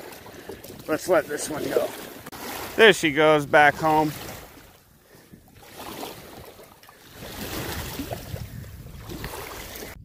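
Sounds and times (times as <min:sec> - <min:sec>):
water splashing and lapping: 0:00.0 - 0:10.0.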